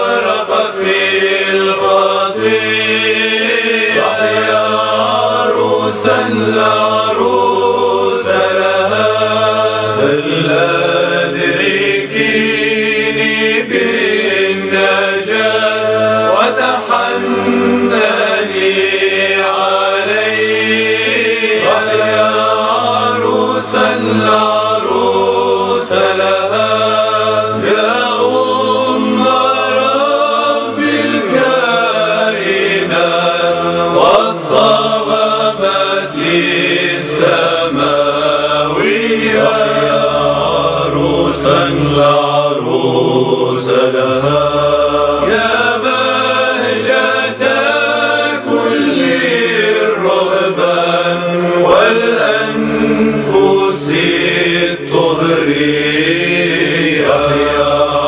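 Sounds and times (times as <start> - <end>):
low held vocal drone: 0.0 - 58.0
voices singing chant melody: 0.0 - 58.0.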